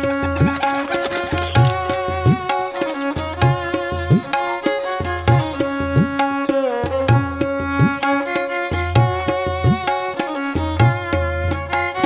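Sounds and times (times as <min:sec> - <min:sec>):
percussion at a steady beat: 0:00.0 - 0:12.0.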